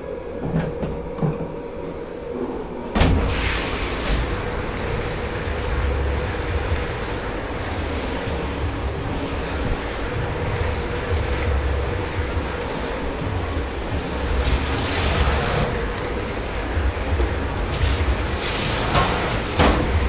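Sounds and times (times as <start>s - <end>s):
constant machine hum: 0.0s - 20.0s
water spraying and rushing: 3.2s - 20.0s.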